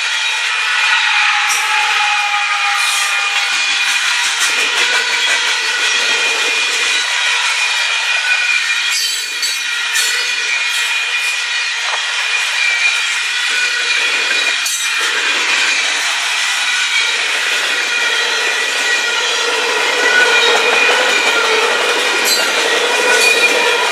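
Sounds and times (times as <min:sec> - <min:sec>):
freight train wheels grinding: 0:00.0 - 0:23.9.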